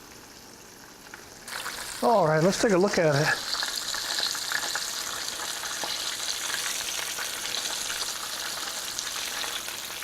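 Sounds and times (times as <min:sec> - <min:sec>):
cutlets sizzling in hot oil: 0:00.0 - 0:10.0.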